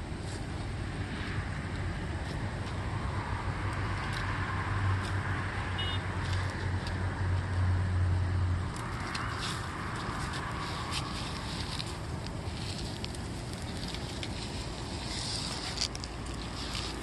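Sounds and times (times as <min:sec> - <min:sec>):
outdoor noise hiss: 0:00.0 - 0:17.0.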